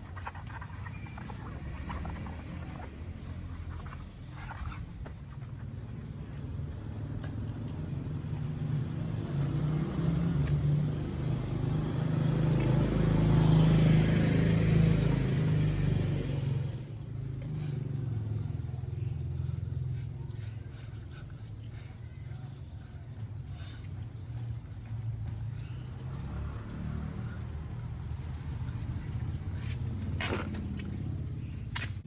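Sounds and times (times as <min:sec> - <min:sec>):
vehicle engine humming: 0:00.0 - 0:23.4, 0:24.0 - 0:32.0.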